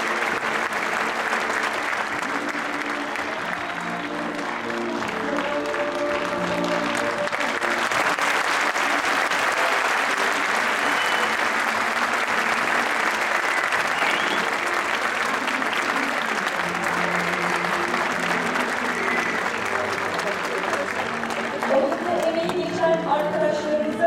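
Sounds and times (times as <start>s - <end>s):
crowd applauding: 0.0s - 23.4s.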